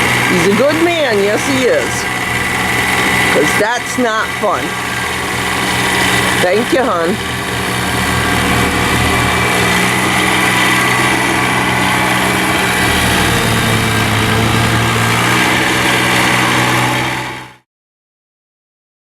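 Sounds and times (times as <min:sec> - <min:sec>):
snowblower engine running: 0:00.0 - 0:17.6.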